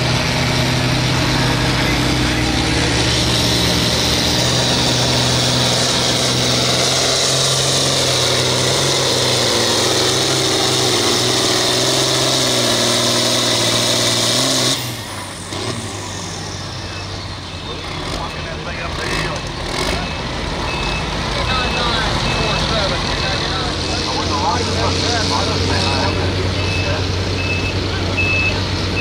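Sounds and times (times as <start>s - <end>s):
tractor diesel engine under full load: 0.0s - 29.0s.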